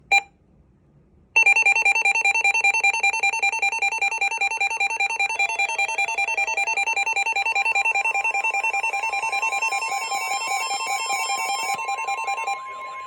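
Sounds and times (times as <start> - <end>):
faint steady tones: 1.4 - 13.0
two-tone electronic alarm warble: 1.4 - 13.0.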